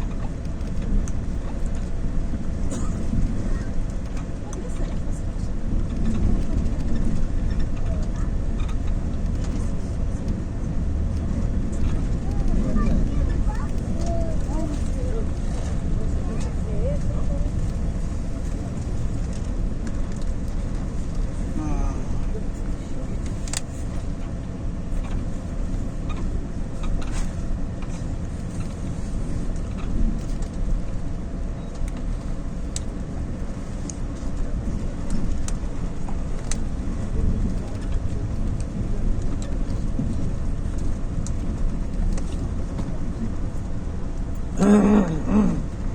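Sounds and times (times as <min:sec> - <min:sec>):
motor vehicle engine rumble: 0:00.0 - 0:45.9.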